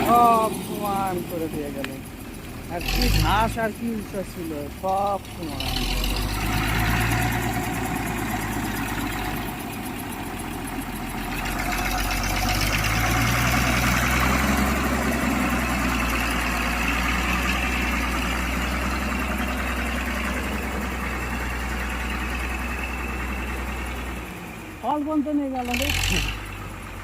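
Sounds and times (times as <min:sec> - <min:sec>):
motor grader diesel engine: 0:00.0 - 0:27.0.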